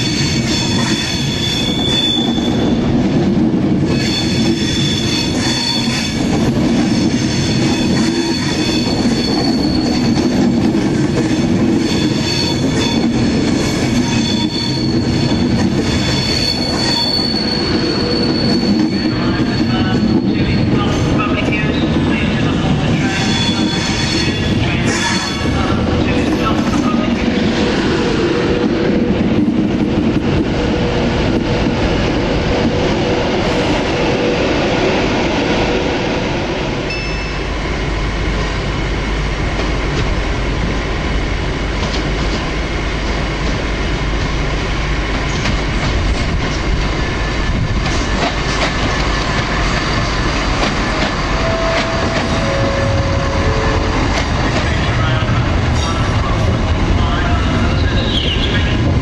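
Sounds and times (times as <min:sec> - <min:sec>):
diesel train rumble: 0:00.0 - 0:59.0
electric train whine and rumble: 0:00.0 - 0:59.0.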